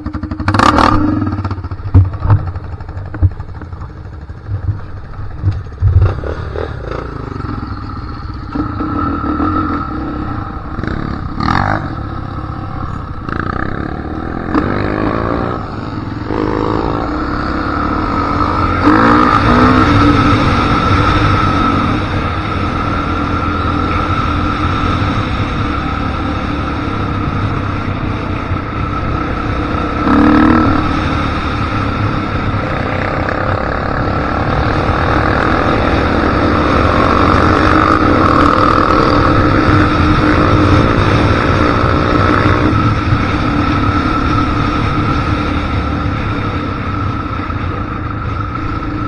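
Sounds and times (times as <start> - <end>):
atv engine revving: 0.0 - 49.0.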